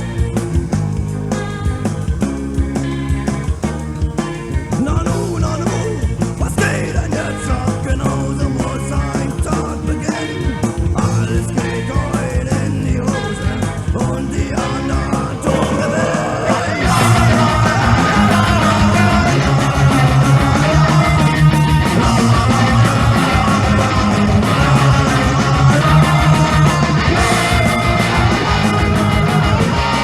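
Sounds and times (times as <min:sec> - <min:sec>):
punk rock band playing: 0:00.0 - 0:30.0.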